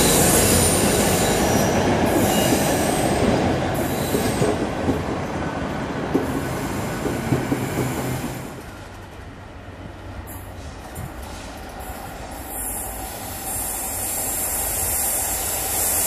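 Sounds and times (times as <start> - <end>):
train wagons rumbling on rails: 0.0 - 16.0.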